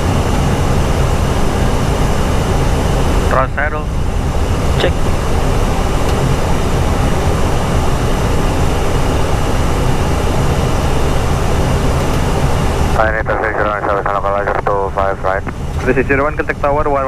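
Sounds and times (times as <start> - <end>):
airflow and engines in cockpit: 0.0 - 17.0.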